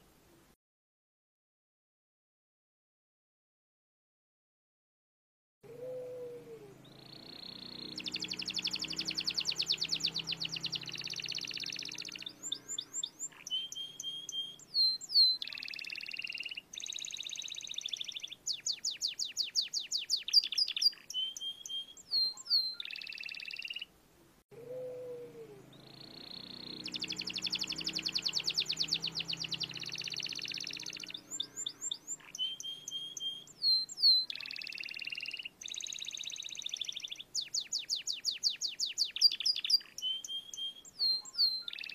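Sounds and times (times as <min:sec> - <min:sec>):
canary singing: 0:05.7 - 0:23.9, 0:24.6 - 0:41.9.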